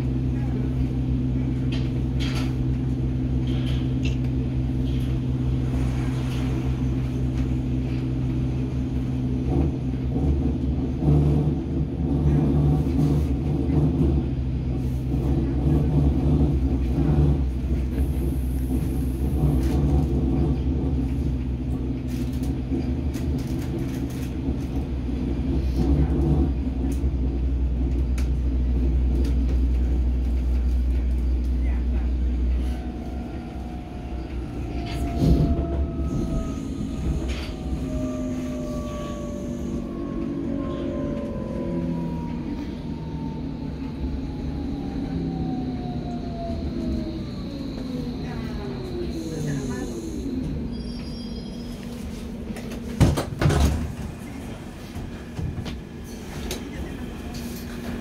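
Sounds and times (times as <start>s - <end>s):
train electric hum: 0.0s - 58.0s
wheels rumbling on track: 0.0s - 58.0s.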